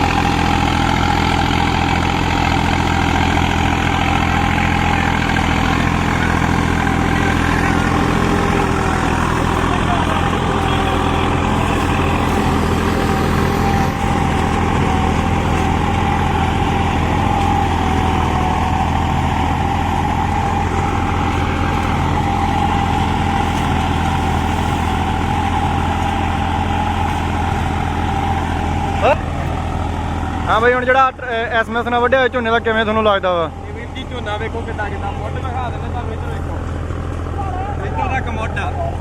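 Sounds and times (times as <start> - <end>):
steady whine: 0.0 - 39.0
tractor engine running: 0.0 - 39.0.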